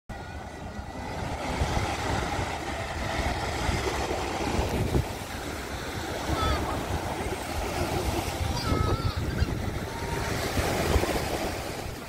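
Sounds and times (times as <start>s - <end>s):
small waves breaking on beach: 0.1s - 12.0s
wind rumbling on microphone: 0.1s - 12.0s.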